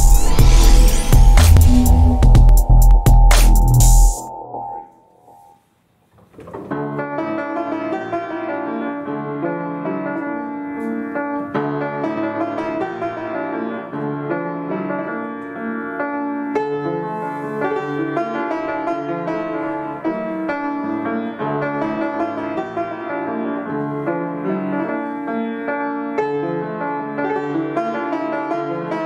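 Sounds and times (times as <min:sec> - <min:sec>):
upright piano piece: 0:00.0 - 0:05.5, 0:06.2 - 0:29.0.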